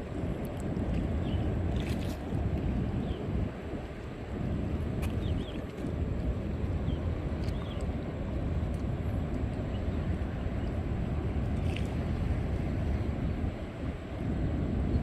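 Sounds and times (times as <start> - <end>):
deep surf rumble: 0.0 - 15.0.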